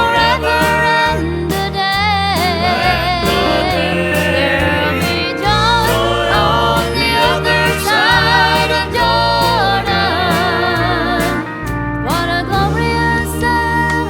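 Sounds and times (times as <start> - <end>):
gospel singing with vibrato: 0.0 - 14.0
instrumental accompaniment: 0.0 - 14.0.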